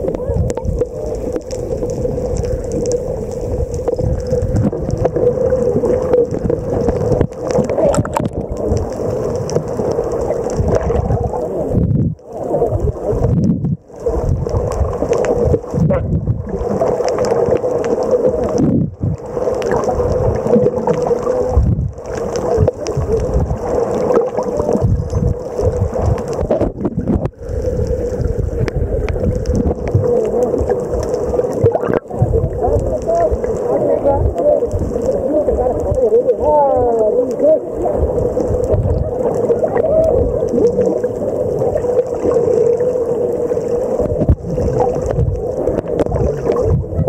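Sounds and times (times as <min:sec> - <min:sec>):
water noise: 0:00.0 - 0:47.0.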